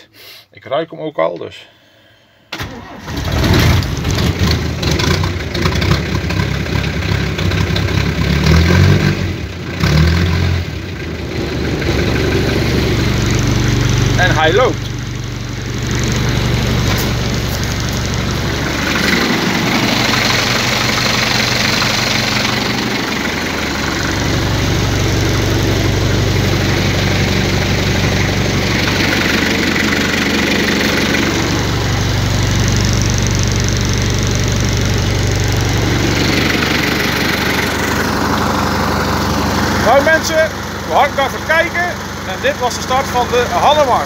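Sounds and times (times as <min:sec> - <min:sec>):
diesel engine idling: 0:01.8 - 0:44.0.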